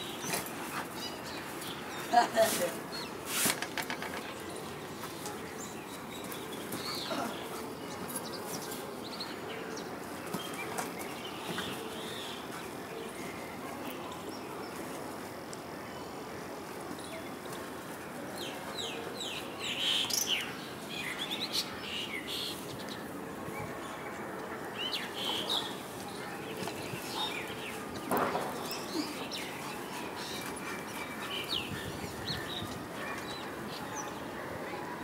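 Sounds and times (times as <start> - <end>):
outdoor background: 0.0 - 35.0.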